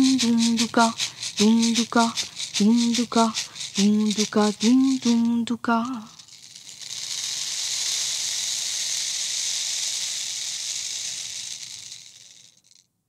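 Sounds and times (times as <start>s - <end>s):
seed rattle hissing: 0.0s - 12.9s.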